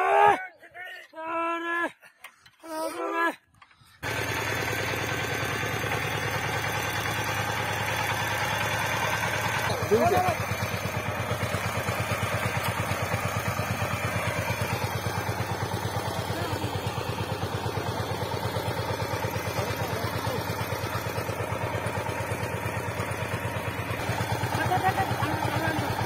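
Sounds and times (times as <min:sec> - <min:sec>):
diesel engine idling: 0:04.0 - 0:26.0.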